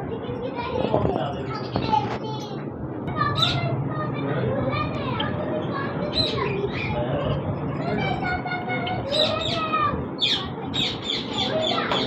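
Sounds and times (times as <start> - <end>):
caged birds chirping: 0.2 - 12.0.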